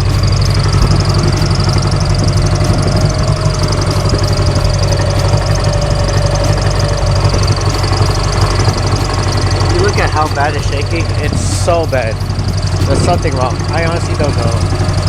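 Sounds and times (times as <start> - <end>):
car engine idling roughly: 0.0 - 15.0.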